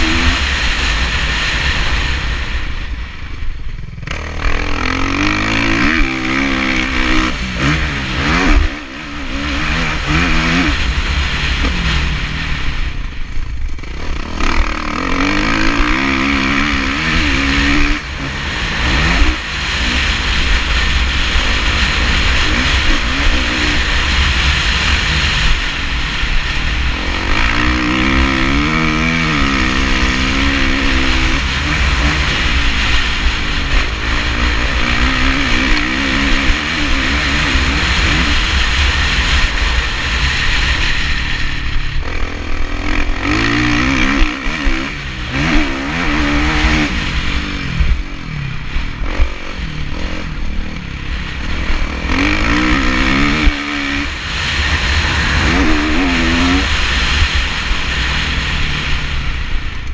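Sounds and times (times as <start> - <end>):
motocross engine revving: 0.0 - 59.9
wind rumble: 0.0 - 59.9.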